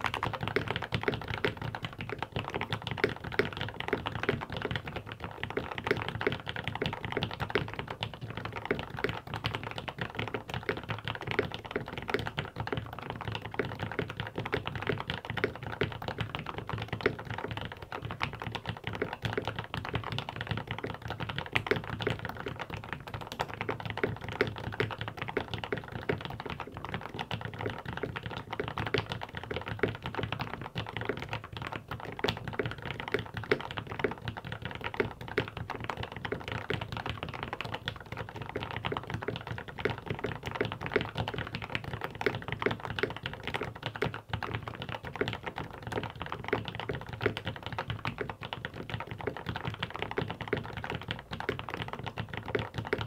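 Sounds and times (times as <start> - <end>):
mechanical keyboard typing: 0.0 - 53.0.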